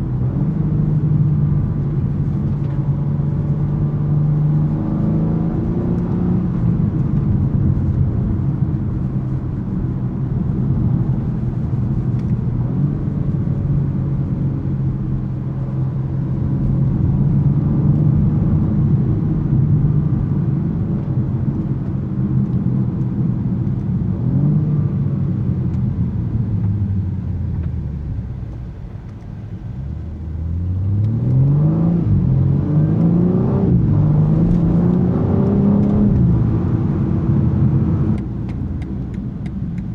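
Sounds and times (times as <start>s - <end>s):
car engine accelerating with upshifts: 0.0s - 39.9s.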